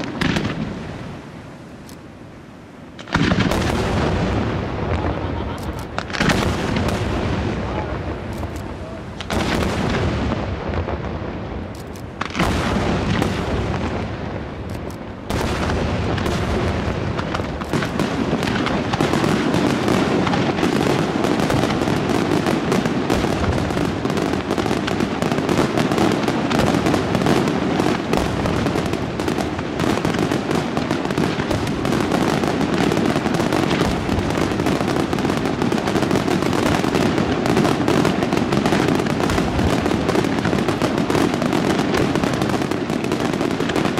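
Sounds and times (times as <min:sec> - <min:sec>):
firework booms: 0:00.0 - 0:01.7, 0:02.9 - 0:43.9
firework bangs and crackling: 0:00.0 - 0:01.9, 0:02.7 - 0:43.9.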